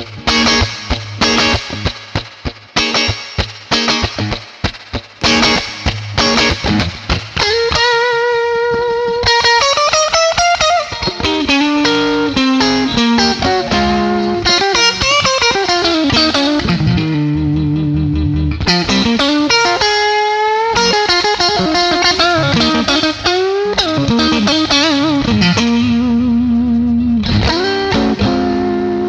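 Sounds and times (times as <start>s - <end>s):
electric guitar notes with bends: 0.0s - 29.0s.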